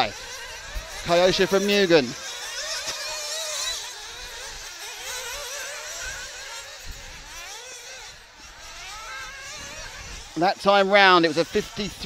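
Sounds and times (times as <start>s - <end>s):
model buggy engines revving: 0.0s - 12.0s.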